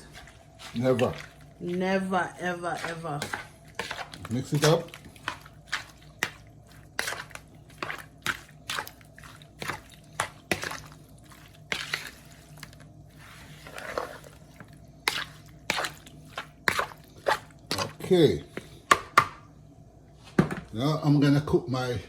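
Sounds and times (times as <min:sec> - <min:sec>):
wet squishing of shrimp mixing: 0:00.0 - 0:18.9.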